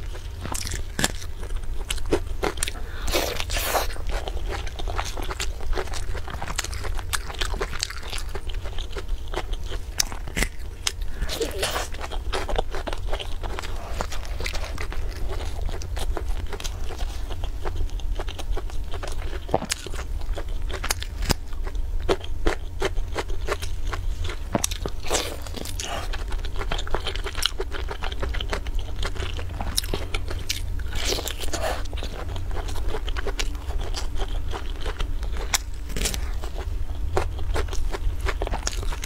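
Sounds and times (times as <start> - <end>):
crunchy bites and chewing: 0.0 - 39.0
low hum: 0.0 - 39.0.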